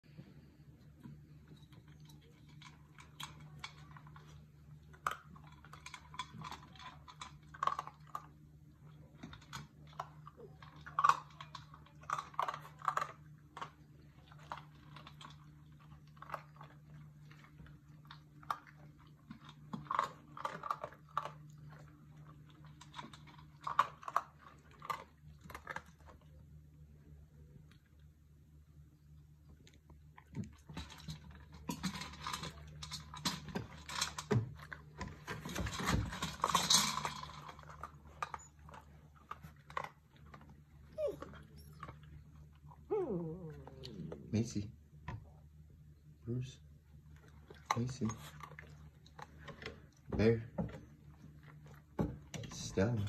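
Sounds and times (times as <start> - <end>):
puppies crunching dry kibble: 0.1 - 28.2, 29.2 - 42.9, 46.9 - 53.0.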